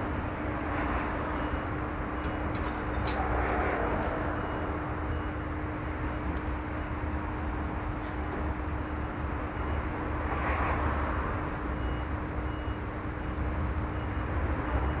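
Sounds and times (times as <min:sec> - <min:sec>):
deep rumble of traffic: 0:00.0 - 0:15.0.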